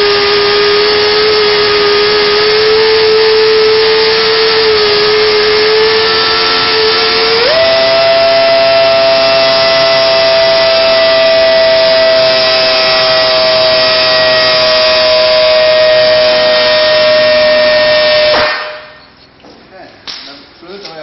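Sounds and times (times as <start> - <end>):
pipe beveling machine whining: 0.0 - 19.0.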